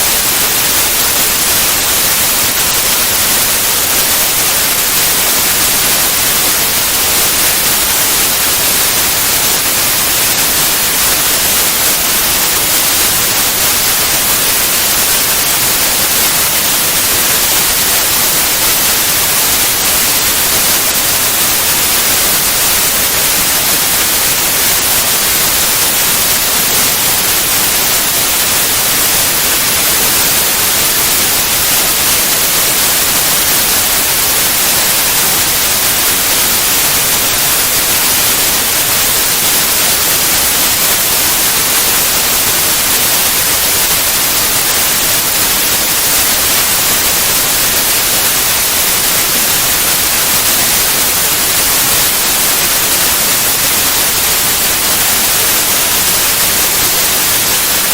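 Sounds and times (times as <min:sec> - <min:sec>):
white noise hiss: 0:00.0 - 0:57.9.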